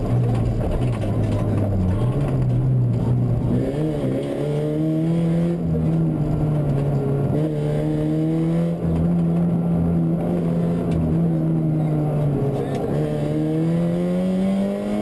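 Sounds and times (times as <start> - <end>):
rally car engine under hard driving: 0.0 - 15.0.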